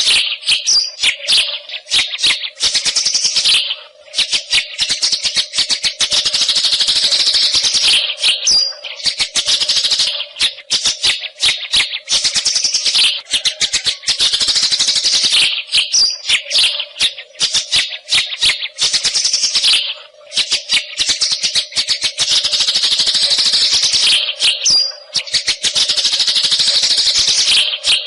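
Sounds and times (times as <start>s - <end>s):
bird singing rattling chatter: 0.0s - 28.0s.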